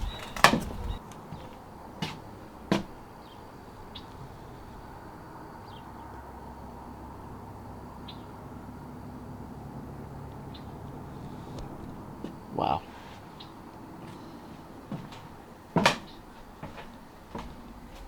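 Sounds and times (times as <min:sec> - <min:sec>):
low outdoor background: 0:00.0 - 0:18.0.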